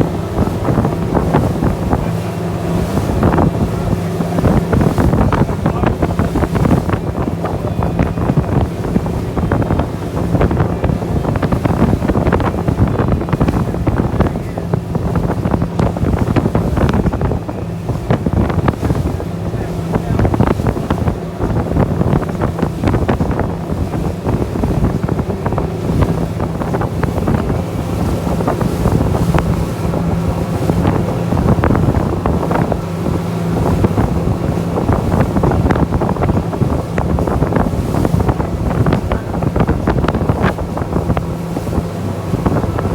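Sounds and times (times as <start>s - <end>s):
boat engine running: 0.0s - 42.9s
water rushing past hull: 0.0s - 42.9s
wind buffeting microphone: 0.0s - 42.9s.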